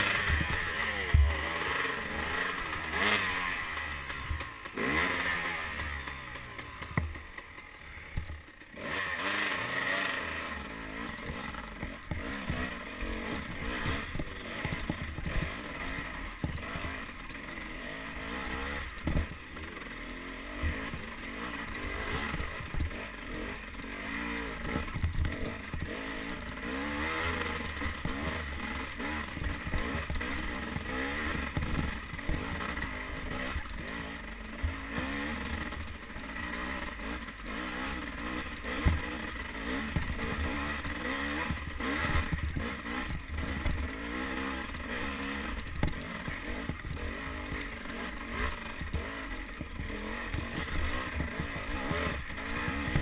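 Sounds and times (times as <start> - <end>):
bike rattling over bumps: 0.0 - 53.0
dirt bike engine revving: 0.0 - 53.0.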